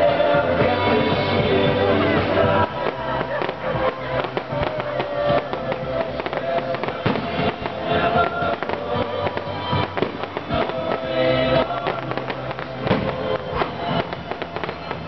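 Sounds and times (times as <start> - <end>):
fireworks crackling and popping: 0.0 - 15.0
music playing: 0.0 - 15.0.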